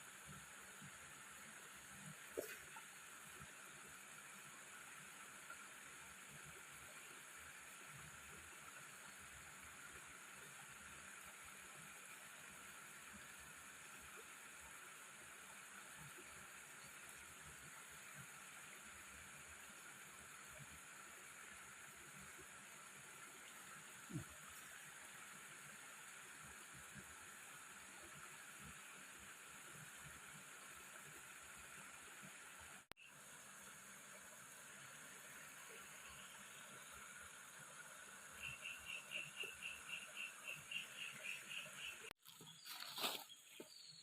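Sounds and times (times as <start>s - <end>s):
faint outdoor hiss: 0.0s - 44.0s.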